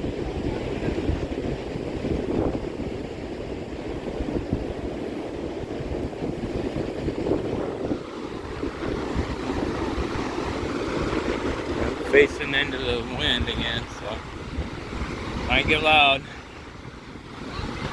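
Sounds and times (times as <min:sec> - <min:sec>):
waves washing onto beach: 0:00.0 - 0:17.9
wind buffeting microphone: 0:00.0 - 0:17.9.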